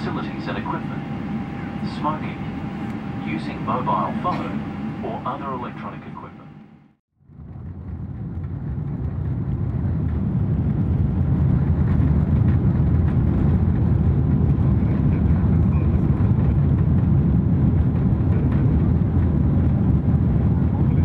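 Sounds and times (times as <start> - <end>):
jet engines at takeoff thrust: 0.0 - 21.0
takeoff roll rumble: 0.0 - 21.0.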